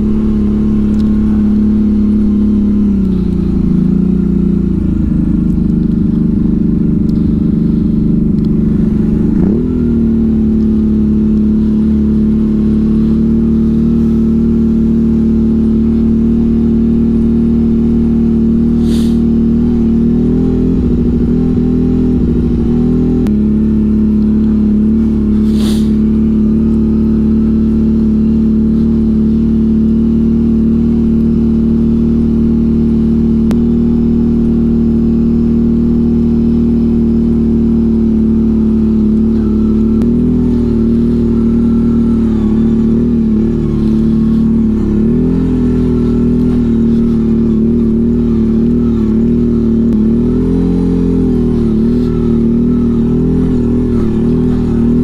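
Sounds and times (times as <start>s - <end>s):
atv engine under load: 0.0s - 55.0s.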